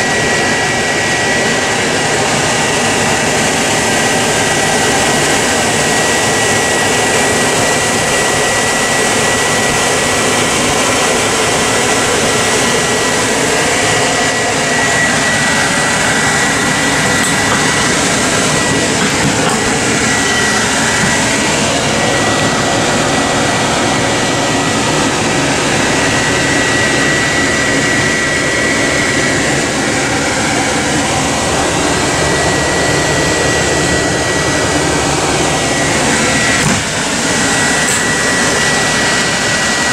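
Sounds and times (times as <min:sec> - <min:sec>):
constant high whine: 0:00.0 - 0:39.9.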